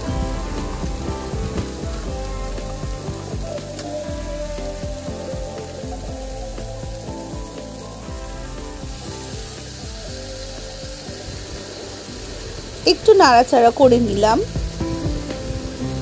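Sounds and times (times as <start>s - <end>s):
background music: 0.0s - 16.0s
vegetables sizzling in oil: 0.0s - 16.0s.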